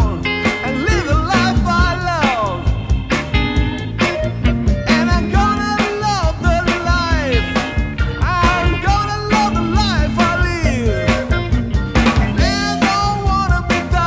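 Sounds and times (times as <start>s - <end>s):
drums keeping steady beat: 0.0s - 14.0s
soul band playing: 0.0s - 14.0s.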